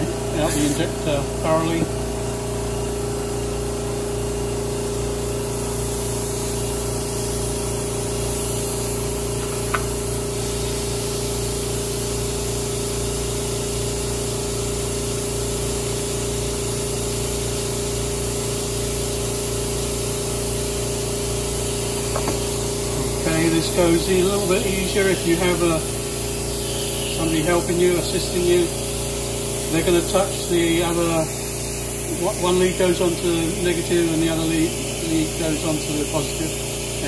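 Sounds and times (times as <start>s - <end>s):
air compressor running: 0.0s - 37.0s.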